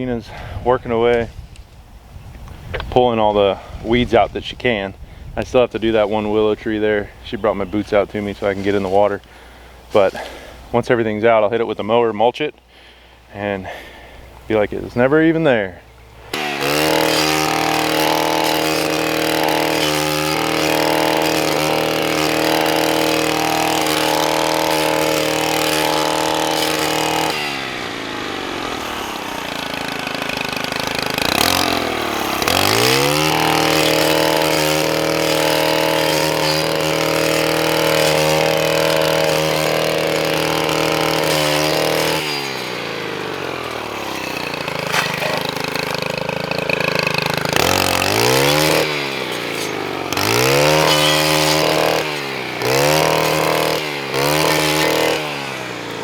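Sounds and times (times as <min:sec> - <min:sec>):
small gasoline engine revving: 0:05.4 - 0:10.9, 0:16.0 - 0:56.0.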